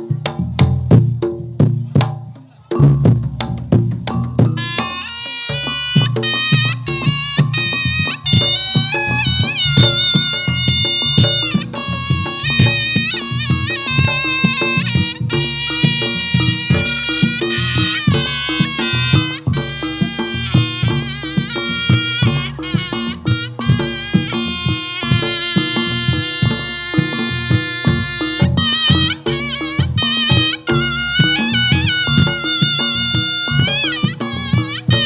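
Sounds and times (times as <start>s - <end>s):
hand drum strokes: 0.0s - 35.0s
shawm playing nasal melody: 1.8s - 35.0s.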